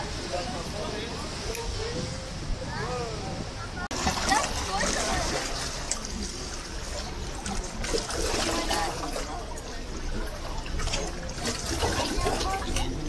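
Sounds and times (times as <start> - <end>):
faint voices: 0.0 - 13.0
water splashing and trickling: 0.0 - 13.0.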